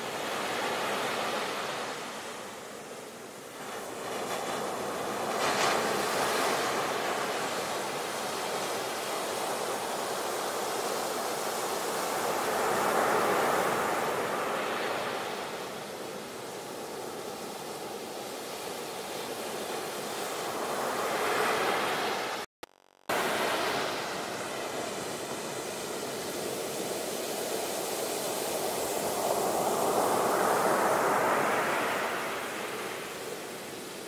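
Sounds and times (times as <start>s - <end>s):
sea waves breaking: 3.5s - 22.5s, 23.1s - 34.0s.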